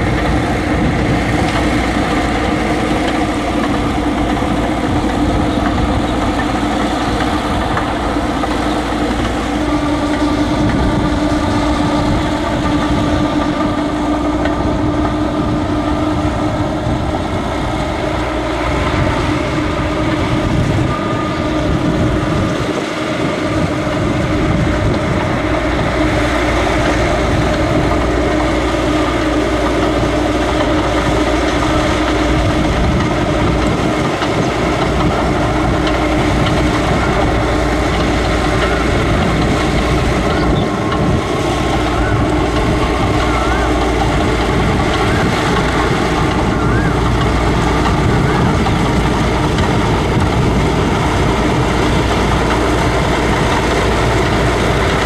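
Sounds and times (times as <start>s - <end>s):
tractor diesel engine running: 0.0s - 55.0s
water churning: 0.0s - 55.0s.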